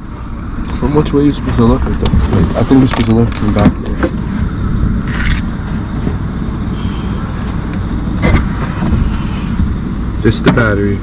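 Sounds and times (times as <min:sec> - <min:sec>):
low rumble: 0:00.0 - 0:10.3.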